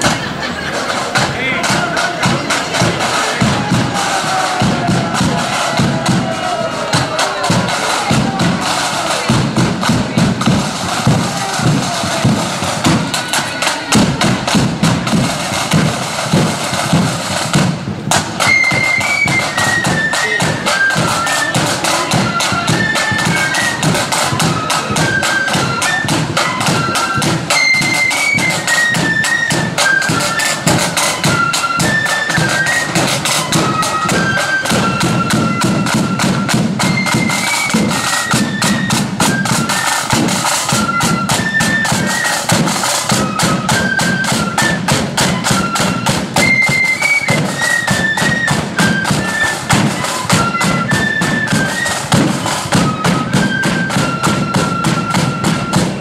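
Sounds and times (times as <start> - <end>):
flutes playing quick tune: 0.0 - 56.0
snare drum beating: 0.0 - 56.0.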